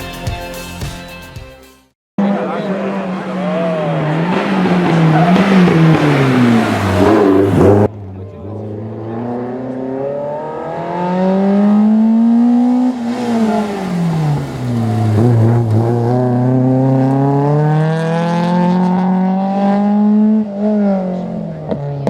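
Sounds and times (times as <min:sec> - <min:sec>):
rally car engine accelerating: 0:02.2 - 0:22.0.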